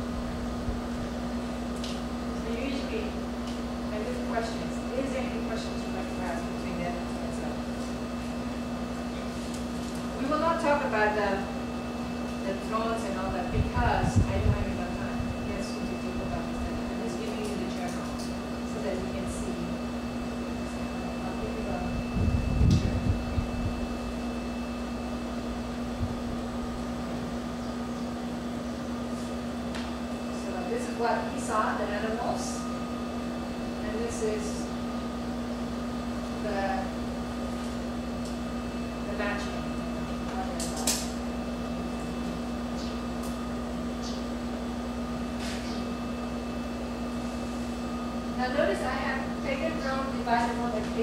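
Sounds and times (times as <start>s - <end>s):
fan humming: 0.0s - 51.0s.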